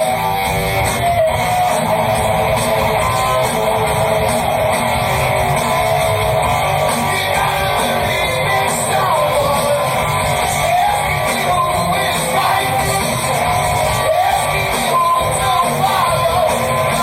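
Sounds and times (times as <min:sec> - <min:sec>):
electric guitar: 0:00.0 - 0:17.0
live rock band playing: 0:00.0 - 0:17.0.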